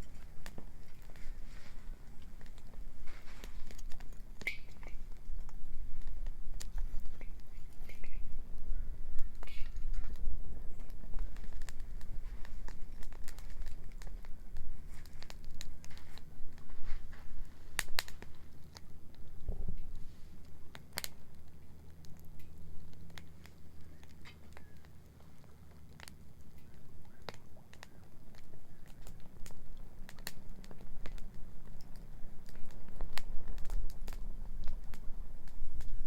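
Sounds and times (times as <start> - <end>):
bonfire crackling and popping: 0.0 - 36.0
low steady rumble: 0.0 - 36.0.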